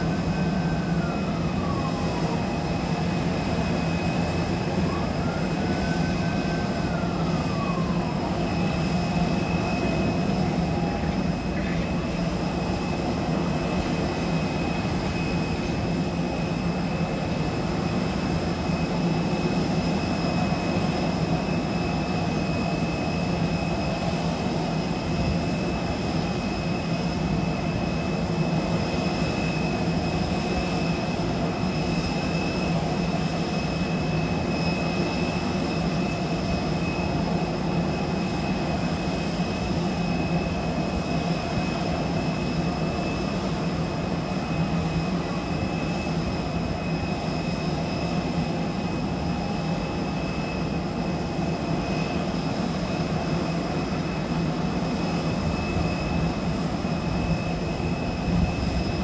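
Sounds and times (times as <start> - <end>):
jet airliner whine and drone: 0.0 - 59.0.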